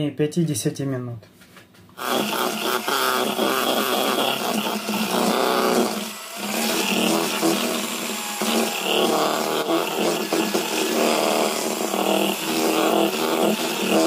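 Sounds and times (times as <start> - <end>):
electric hand mixer whipping: 2.0 - 14.0.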